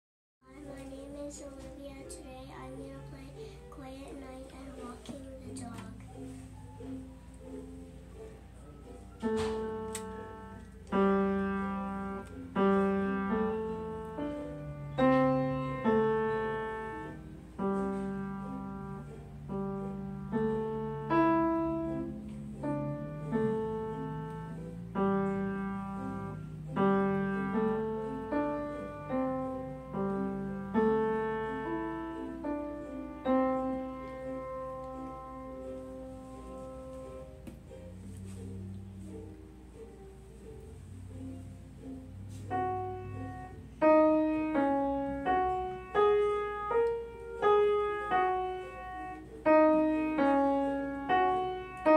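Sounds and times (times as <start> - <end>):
upright piano played slowly: 0.4 - 51.9.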